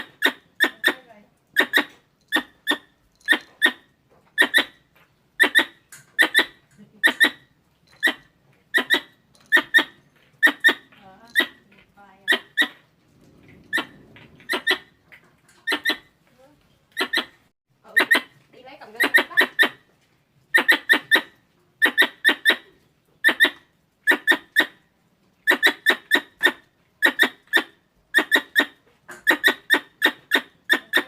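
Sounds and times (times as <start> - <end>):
squirrel chirps: 0.0 - 4.8, 5.4 - 12.8, 13.7 - 14.9, 15.6 - 16.1, 16.9 - 19.8, 20.5 - 24.8, 25.4 - 31.0.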